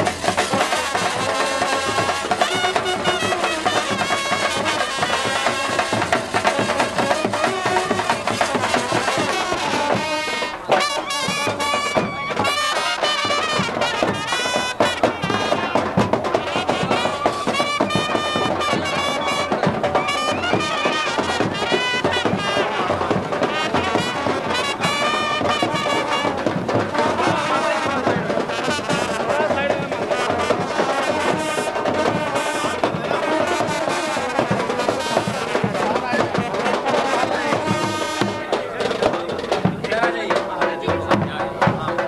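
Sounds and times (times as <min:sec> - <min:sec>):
brass instruments playing melody: 0:00.0 - 0:38.7.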